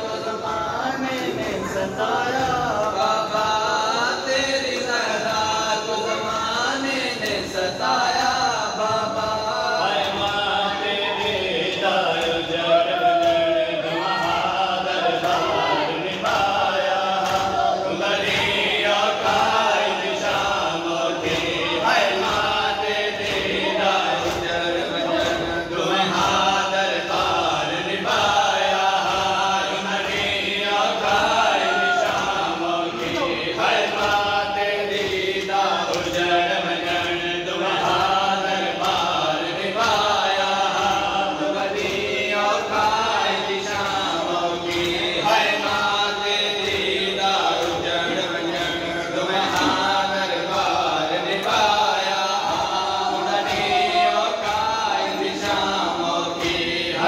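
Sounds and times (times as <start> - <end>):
men chanting a lament: 0.0 - 57.0.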